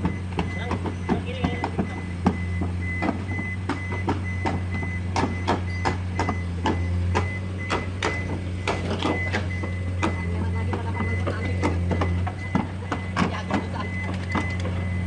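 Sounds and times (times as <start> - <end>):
high beep: 0.0 - 15.0
machinery humming: 0.0 - 15.0.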